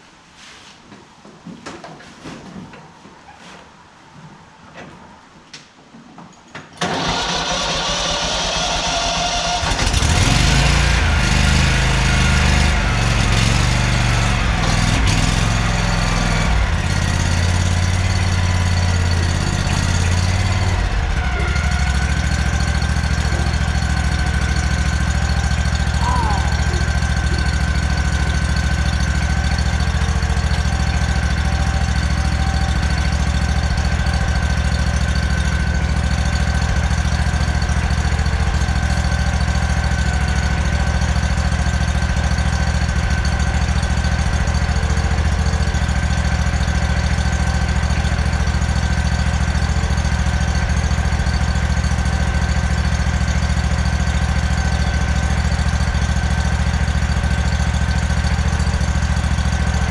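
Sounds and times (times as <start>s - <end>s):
lawn mower engine idling: 6.8s - 59.9s.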